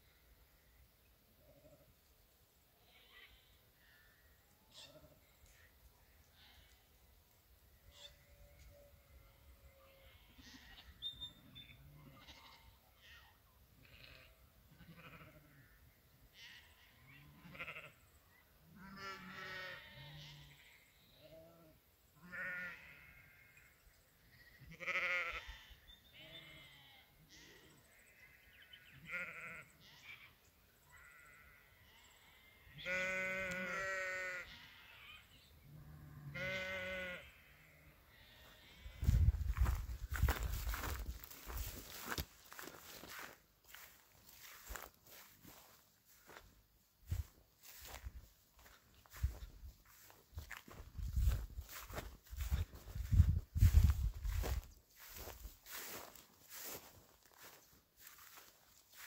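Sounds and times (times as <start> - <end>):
sheep bleating: 2.8 - 5.2, 6.2 - 6.8, 7.8 - 11.0, 11.8 - 18.1, 18.7 - 46.4, 47.1 - 59.0.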